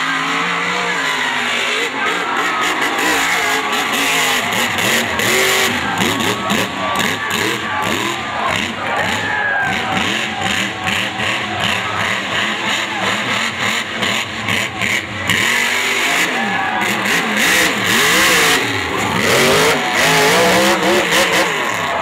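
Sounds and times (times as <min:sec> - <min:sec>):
truck engine revving hard: 0:00.0 - 0:22.0.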